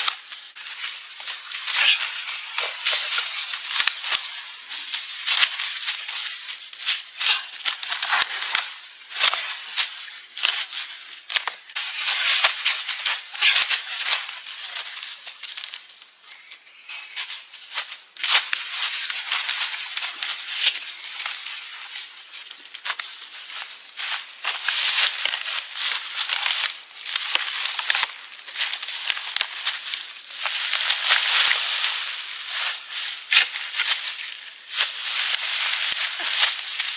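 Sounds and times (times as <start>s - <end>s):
dry leaves rustling and crackling: 0.0s - 36.9s.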